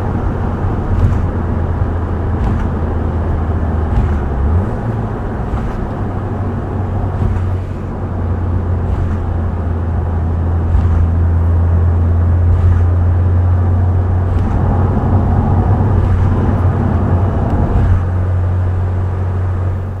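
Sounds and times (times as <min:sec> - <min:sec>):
car engine cruising drone: 0:00.0 - 0:20.0
tyre and road noise: 0:00.0 - 0:20.0.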